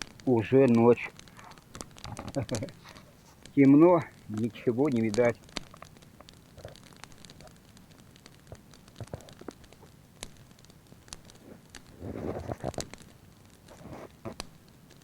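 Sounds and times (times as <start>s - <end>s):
rustling: 0.0s - 15.0s
wood fire crackling: 0.0s - 15.0s.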